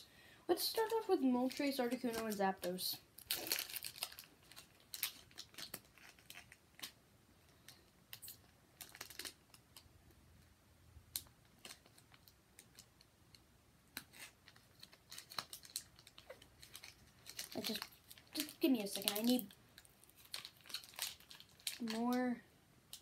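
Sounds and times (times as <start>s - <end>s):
foil wrapper crinkling: 0.7s - 7.0s, 7.6s - 9.8s, 11.2s - 13.0s, 14.0s - 22.3s.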